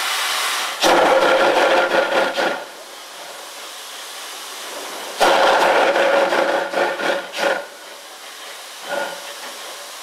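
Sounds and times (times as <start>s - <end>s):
locomotive steam hissing: 0.0s - 10.0s.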